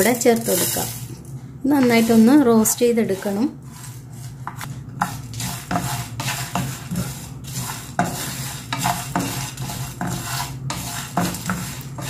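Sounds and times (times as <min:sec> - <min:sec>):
seeds rustling and scraping in pan: 0:00.0 - 0:12.0.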